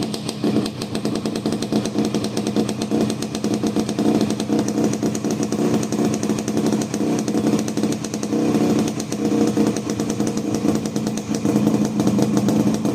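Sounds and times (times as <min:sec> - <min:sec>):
two-stroke motorcycle engine running: 0:00.0 - 0:12.9.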